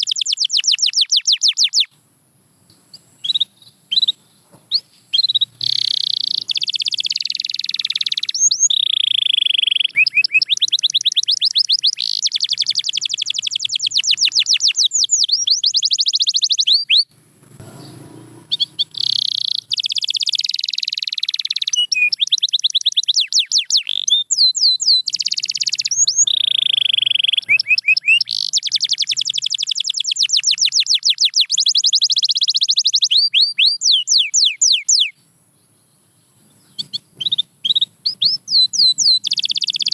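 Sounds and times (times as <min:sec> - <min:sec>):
canary singing trills: 0:00.0 - 0:02.0, 0:02.7 - 0:39.9.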